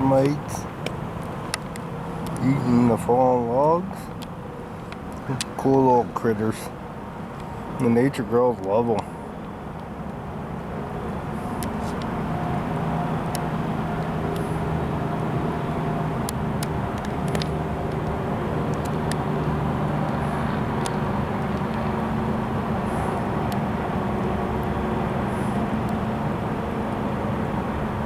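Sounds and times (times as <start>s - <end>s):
mechanical rumble with low hum: 0.0s - 28.0s.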